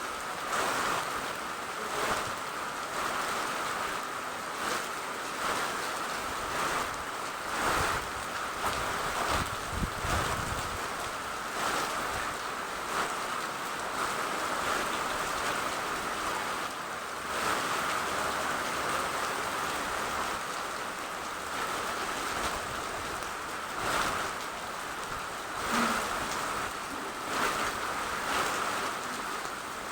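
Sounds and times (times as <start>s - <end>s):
steady rain: 0.0s - 29.9s.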